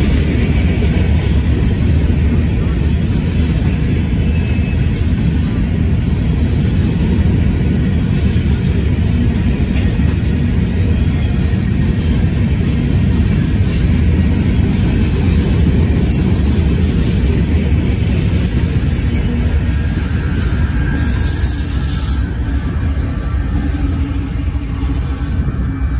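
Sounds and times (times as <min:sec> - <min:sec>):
freight train rolling on rails: 0:00.0 - 0:25.9.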